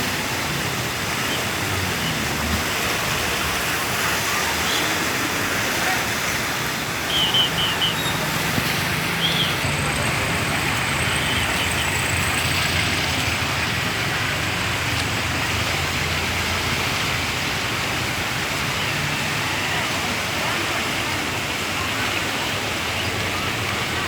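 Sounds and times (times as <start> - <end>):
flooded river rushing: 0.0 - 24.0.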